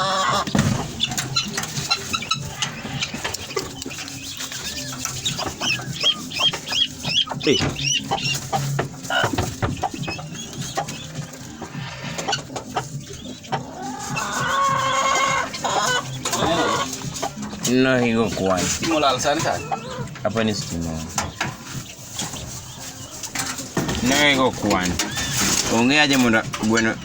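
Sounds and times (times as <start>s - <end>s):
chickens clucking and calling: 0.0s - 27.0s.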